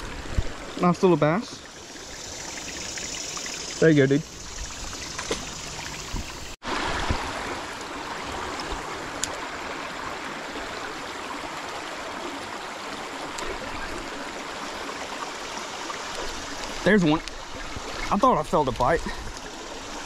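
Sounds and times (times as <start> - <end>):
creek water running over rocks: 0.0 - 20.0.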